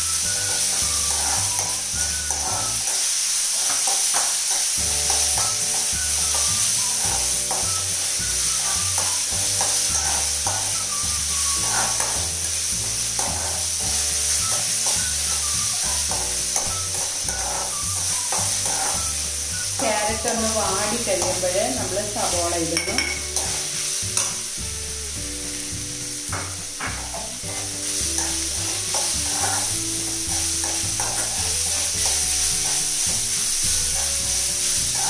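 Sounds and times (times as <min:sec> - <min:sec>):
background music with bass: 0:00.0 - 0:02.8, 0:04.8 - 0:35.0
spatula scraping a pan: 0:00.0 - 0:24.6, 0:25.2 - 0:35.0
carrots sizzling in hot oil: 0:00.0 - 0:35.0.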